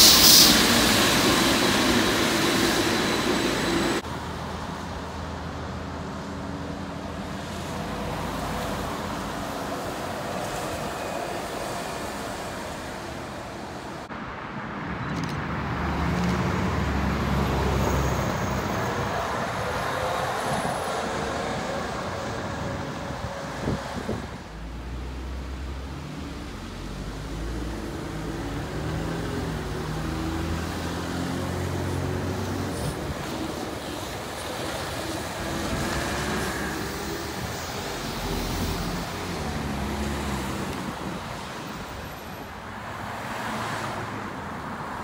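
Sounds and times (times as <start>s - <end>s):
trolleybuses driving past: 0.0s - 45.0s.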